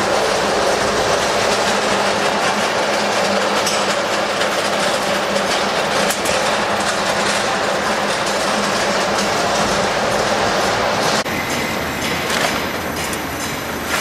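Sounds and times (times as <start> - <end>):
winding machine running: 0.0 - 14.0.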